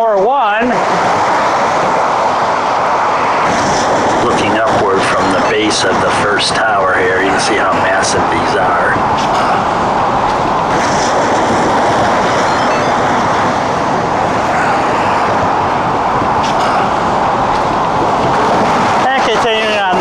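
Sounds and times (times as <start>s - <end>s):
road traffic passing: 0.6s - 20.0s.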